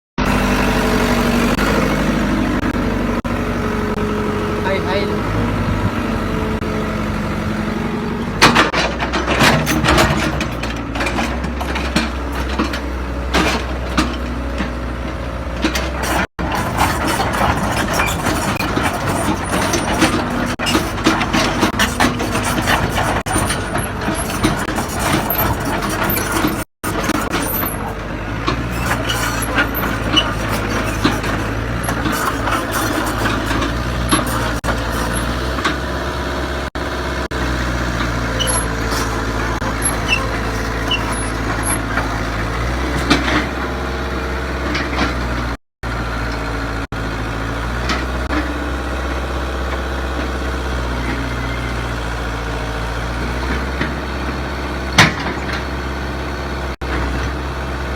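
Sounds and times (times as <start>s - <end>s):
excavator diesel engine running: 0.2s - 57.9s.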